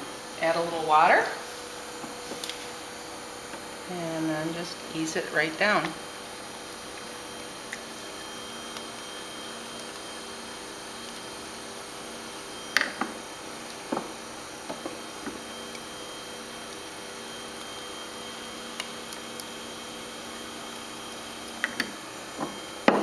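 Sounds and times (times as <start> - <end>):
pottery wheel motor hum: 0.0 - 23.0.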